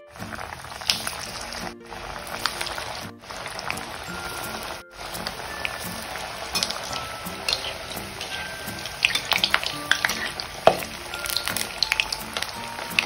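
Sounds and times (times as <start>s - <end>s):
food deep-frying in hot oil: 0.1s - 13.0s.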